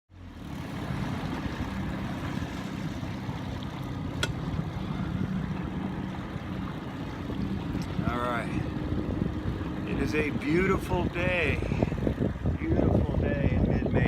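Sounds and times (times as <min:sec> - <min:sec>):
boat motor rumbling: 0:00.1 - 0:14.0.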